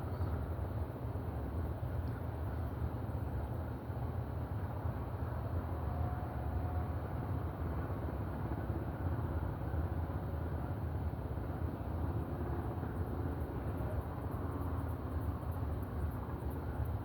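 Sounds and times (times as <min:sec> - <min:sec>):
steady low outdoor rumble: 0:00.0 - 0:17.0.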